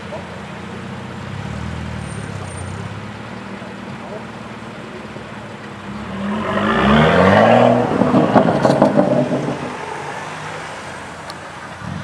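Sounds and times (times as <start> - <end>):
car engine accelerating hard: 0.8 - 12.0.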